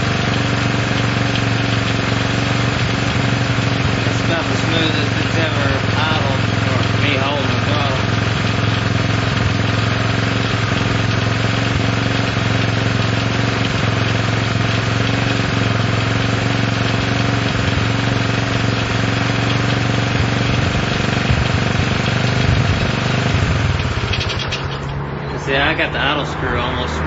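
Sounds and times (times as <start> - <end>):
motorcycle engine fast idle: 0.0 - 26.1.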